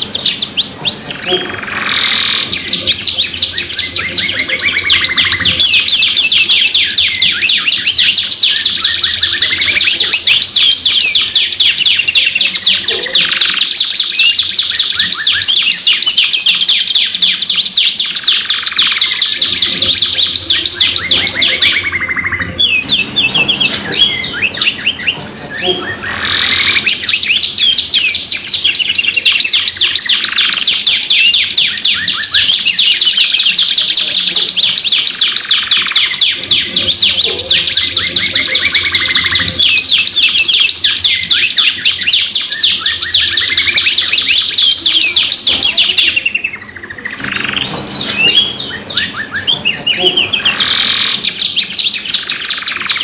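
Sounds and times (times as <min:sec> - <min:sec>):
canaries singing rolling trills: 0:00.0 - 0:53.0.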